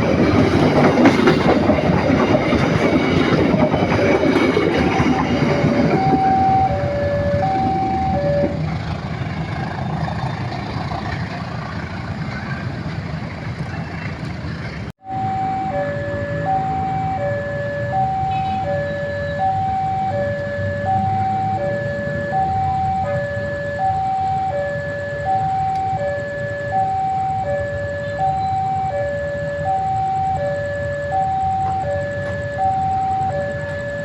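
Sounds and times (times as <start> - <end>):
level crossing two-tone alarm: 0.4 - 8.7, 15.0 - 34.0.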